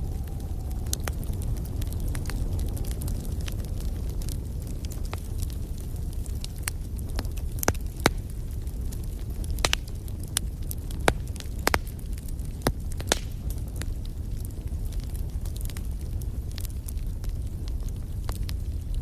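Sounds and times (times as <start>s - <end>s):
low fire rumble: 0.0s - 19.0s
wood fire crackling: 0.0s - 19.0s.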